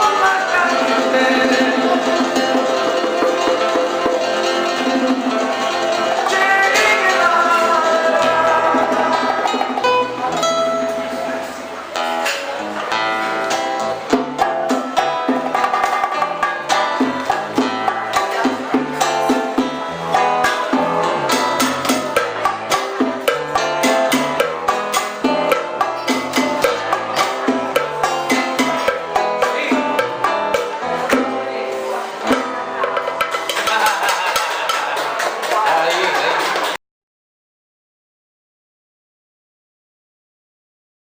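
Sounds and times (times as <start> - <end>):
percussion: 0.0 - 36.8
plucked strings: 0.0 - 36.8.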